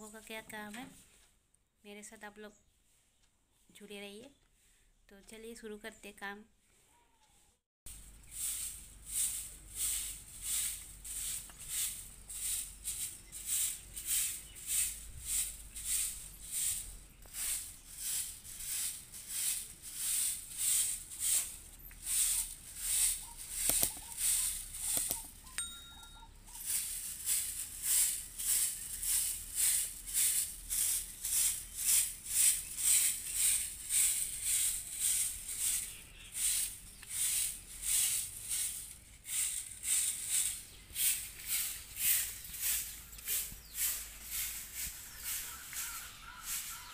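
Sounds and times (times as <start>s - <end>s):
broom sweeping paving: 7.9s - 46.9s.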